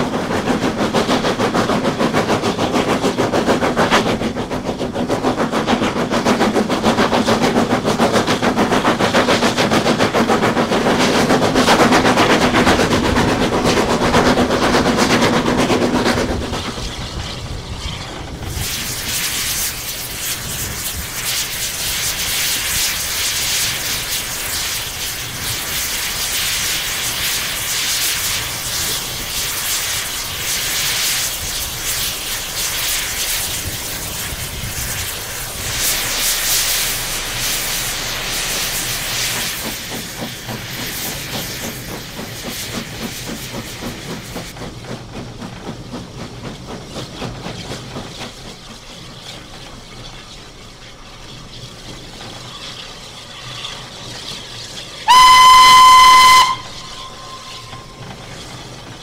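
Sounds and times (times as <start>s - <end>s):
steam hissing: 0.0s - 59.0s
steam locomotive exhaust beats: 0.0s - 59.0s.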